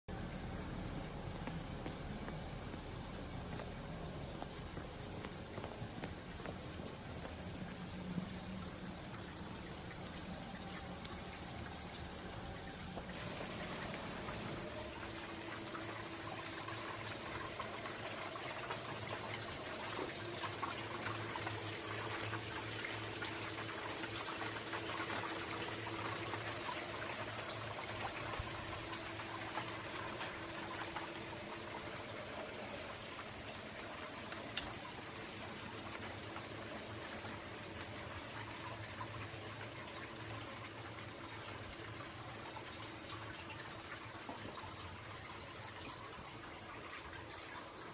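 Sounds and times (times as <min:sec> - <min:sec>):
small water drips: 0:00.1 - 0:47.9
water trickling and pouring: 0:00.1 - 0:47.9.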